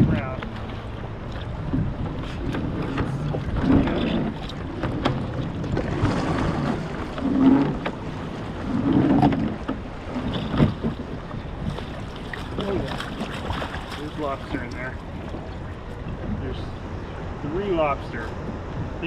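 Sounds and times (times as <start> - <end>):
water splashing around kayak: 0.0 - 19.0.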